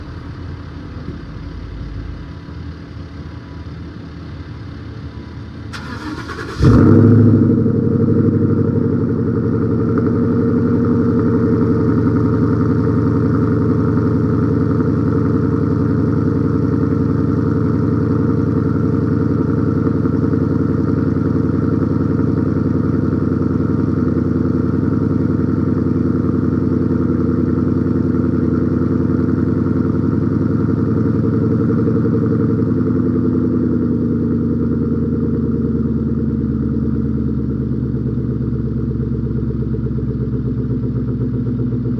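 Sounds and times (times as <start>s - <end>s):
car engine revving and idling: 5.7s - 41.9s.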